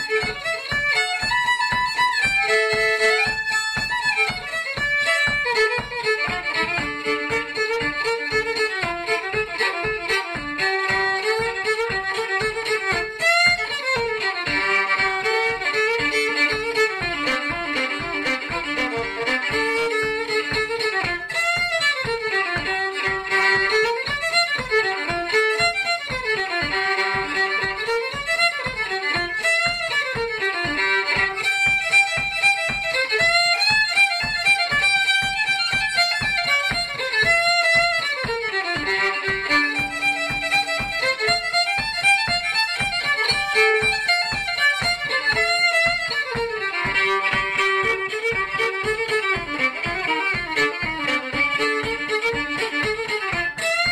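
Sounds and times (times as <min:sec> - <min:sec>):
solo fiddle playing lively tune: 0:00.0 - 0:53.9.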